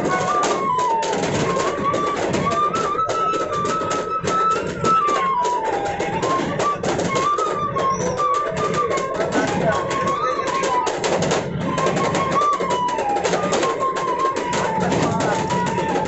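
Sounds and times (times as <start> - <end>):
bamboo flute folk melody: 0.0 - 16.0
fast sharp percussive beats: 0.0 - 16.0.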